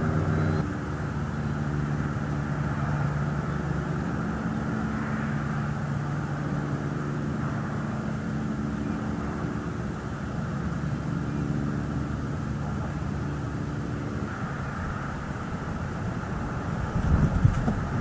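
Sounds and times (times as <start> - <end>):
distant engine drone: 0.0 - 18.0
outdoor background noise: 0.0 - 18.0.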